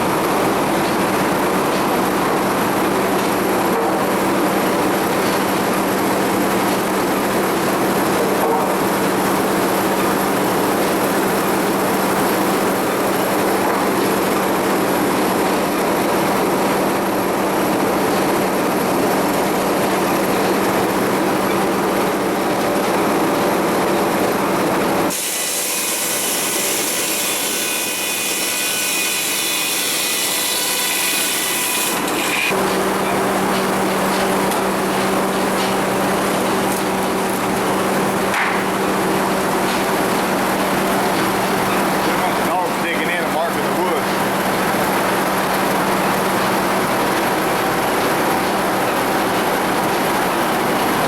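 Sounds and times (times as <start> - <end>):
sawmill machinery humming: 0.0 - 51.0.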